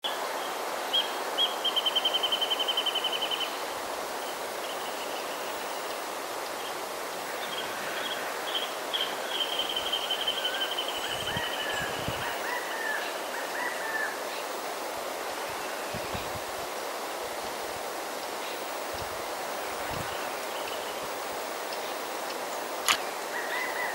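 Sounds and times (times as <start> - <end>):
breeze hiss: 0.0 - 23.9.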